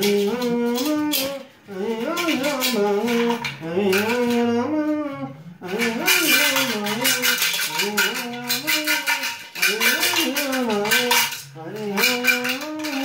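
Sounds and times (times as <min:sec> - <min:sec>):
metal bowl clinking and scraping: 0:00.0 - 0:13.0.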